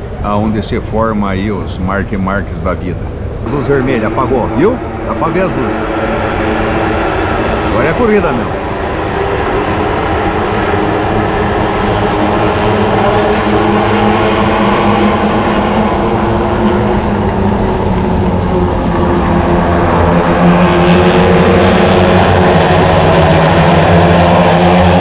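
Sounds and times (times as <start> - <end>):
racing motorcycles engines drone: 0.0 - 25.0.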